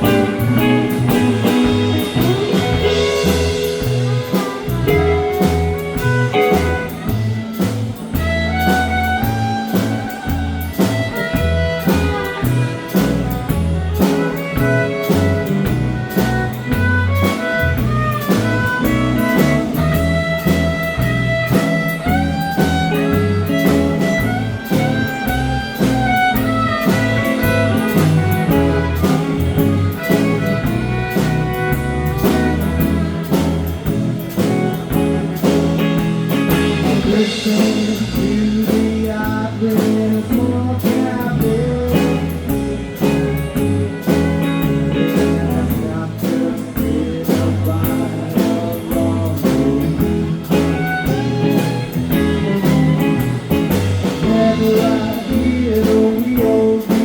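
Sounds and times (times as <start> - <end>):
bass: 0.0 - 57.0
bending guitar lead: 0.0 - 57.0
drum kit steady beat: 0.0 - 57.0.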